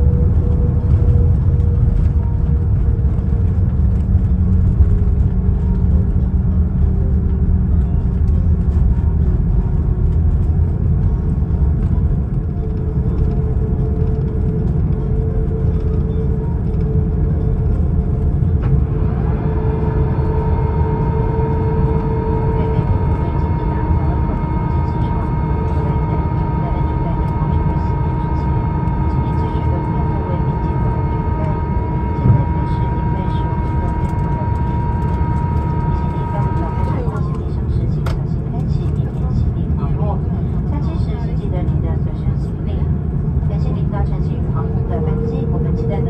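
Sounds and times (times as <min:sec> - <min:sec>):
jet engine whine rising: 0:00.0 - 0:38.5, 0:42.9 - 0:46.0
airplane cabin rumble: 0:00.0 - 0:46.0.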